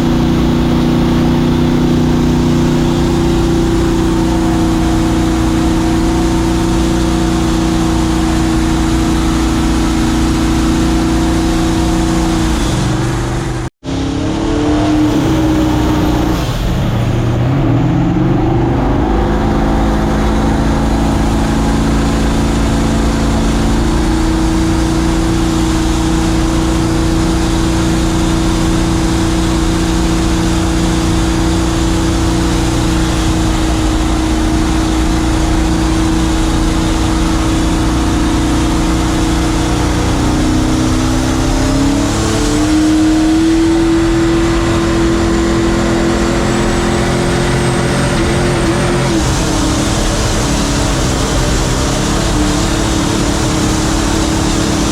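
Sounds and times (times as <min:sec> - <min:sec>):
boat engine running hard: 0:00.0 - 0:54.9
rush of wind and water: 0:00.0 - 0:54.9.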